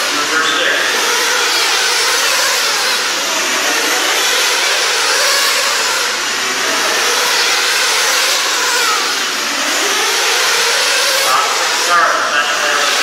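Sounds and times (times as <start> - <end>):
model car engines droning: 0.0 - 13.0.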